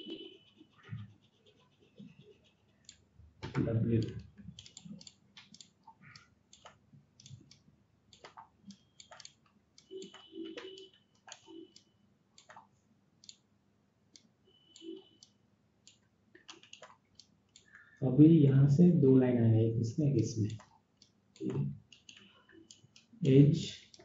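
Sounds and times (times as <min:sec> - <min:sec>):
mouse and keyboard clicking: 0:00.0 - 0:13.4, 0:14.2 - 0:18.0, 0:20.4 - 0:24.0.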